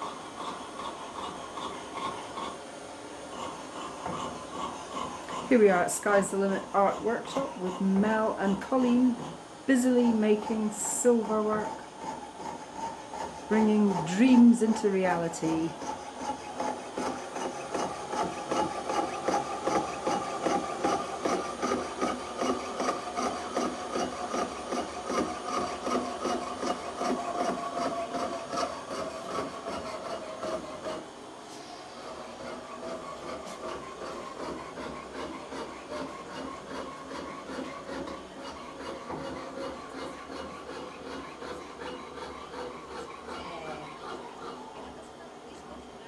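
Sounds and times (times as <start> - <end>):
rasping file strokes on metal: 0.0 - 2.6, 3.3 - 31.2, 31.9 - 44.9.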